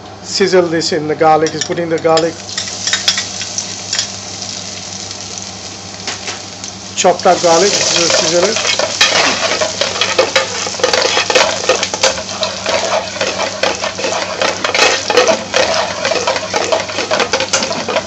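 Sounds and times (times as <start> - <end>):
garlic sizzling in hot oil: 2.4 - 18.0.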